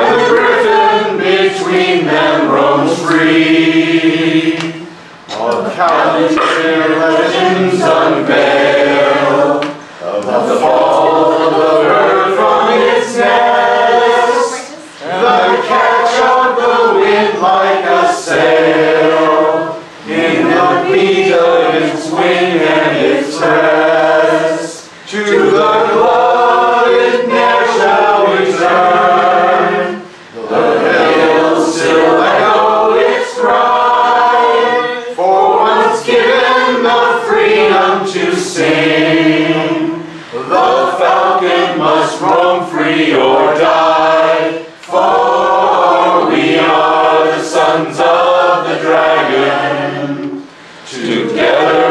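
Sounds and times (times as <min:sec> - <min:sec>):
group singing unaccompanied: 0:00.0 - 0:51.9.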